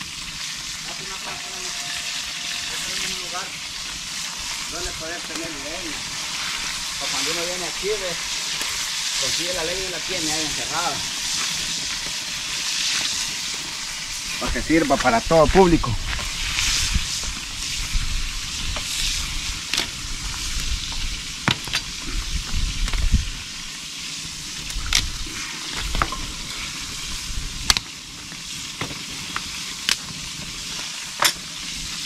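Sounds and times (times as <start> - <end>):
oil sizzling in a pan: 0.0 - 32.0.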